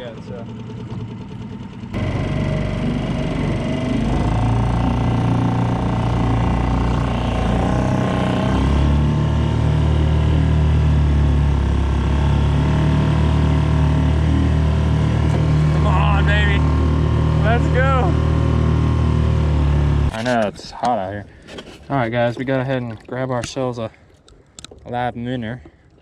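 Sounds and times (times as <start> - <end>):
outboard motor running: 0.0 - 25.9.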